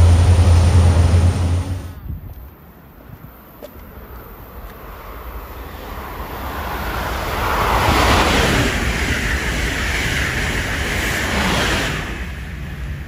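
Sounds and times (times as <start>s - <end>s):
high-speed train passing: 0.0s - 13.0s.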